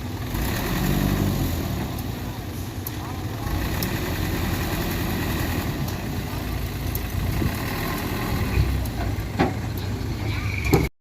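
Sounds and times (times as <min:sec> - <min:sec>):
diesel truck engine running: 0:00.0 - 0:10.9.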